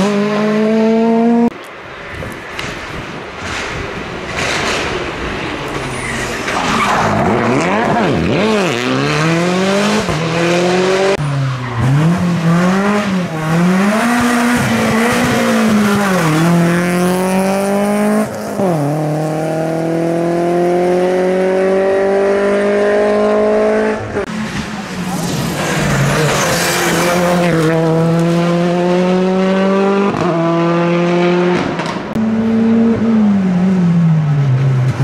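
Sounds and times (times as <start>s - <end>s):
car accelerating hard: 0.0s - 1.5s, 5.7s - 35.0s
rally car engines revving: 0.0s - 1.6s, 2.4s - 35.0s.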